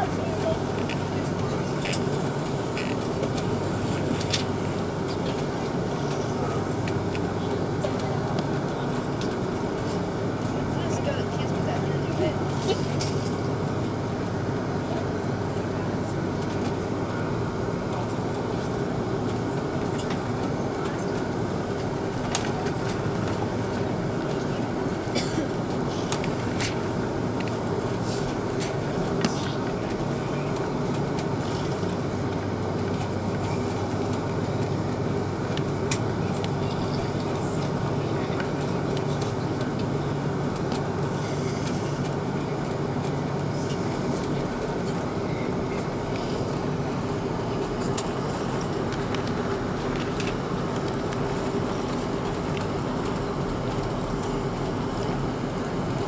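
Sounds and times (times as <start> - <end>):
aircraft cabin rumble: 0.0 - 56.0
low engine hum: 0.0 - 56.0.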